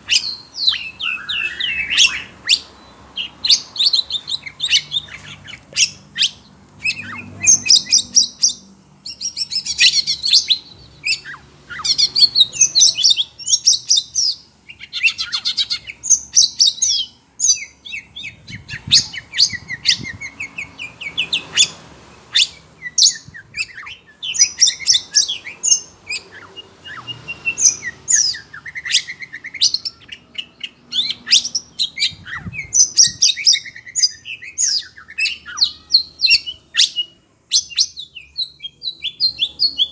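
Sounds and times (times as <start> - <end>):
bird singing whistled phrases: 0.0 - 39.9
other birds calling: 0.0 - 39.9.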